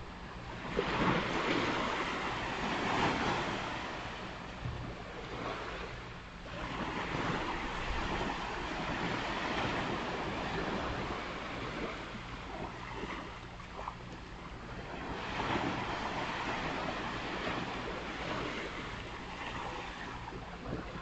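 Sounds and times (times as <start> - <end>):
ocean surf on a beach: 0.0 - 21.0.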